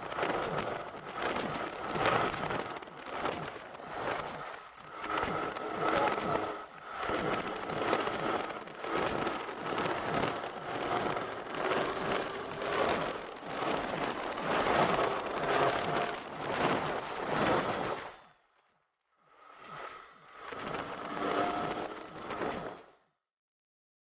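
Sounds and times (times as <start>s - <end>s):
motorcycle engine: 0.0s - 18.6s, 19.3s - 23.1s.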